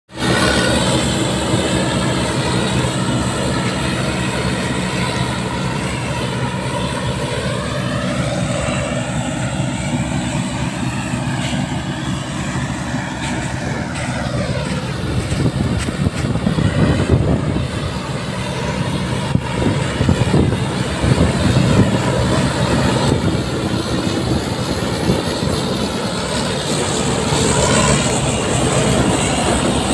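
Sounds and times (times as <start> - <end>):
combine harvester engine drone: 0.1 - 29.9
threshing machinery noise: 0.1 - 29.9.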